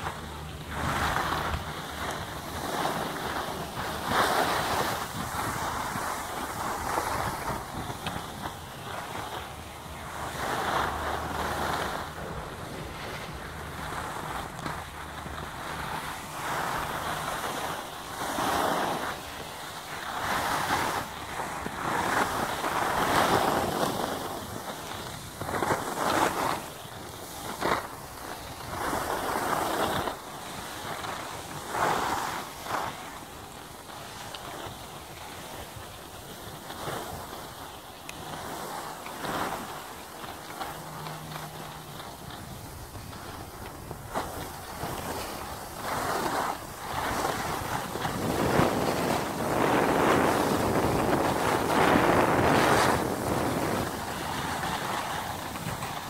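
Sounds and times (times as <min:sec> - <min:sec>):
skis scraping over snow: 0:00.0 - 0:56.0
wind on microphone: 0:00.0 - 0:56.0.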